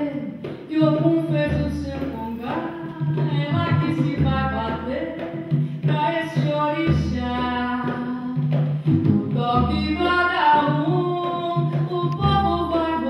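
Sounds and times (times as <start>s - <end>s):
hand drums and percussion: 0.0s - 13.0s.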